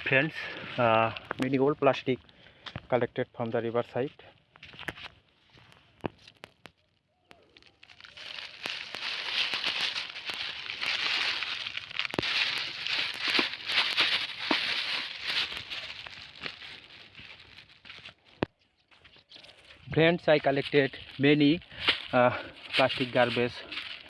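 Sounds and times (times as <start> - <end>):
plastic crinkling and rustling: 4.6 - 24.0.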